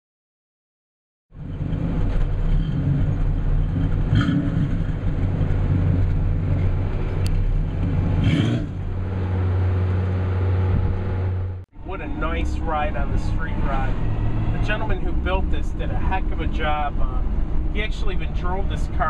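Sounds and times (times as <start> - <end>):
car engine exhaust rumble: 1.3 - 19.0.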